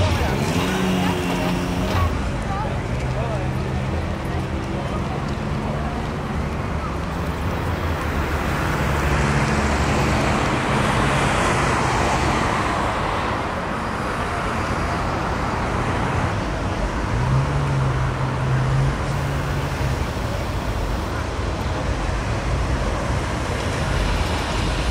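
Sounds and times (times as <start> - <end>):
tram wheels rumbling on rail: 0.0 - 24.9.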